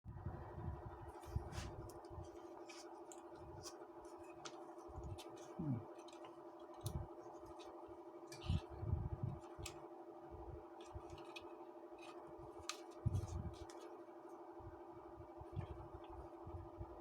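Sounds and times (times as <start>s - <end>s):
electrical hum: 0.1s - 17.0s.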